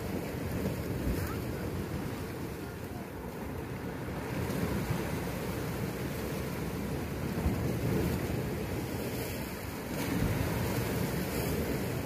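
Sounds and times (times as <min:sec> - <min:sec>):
sea washing against rocks: 0:00.0 - 0:12.0
wind on microphone: 0:00.0 - 0:12.0.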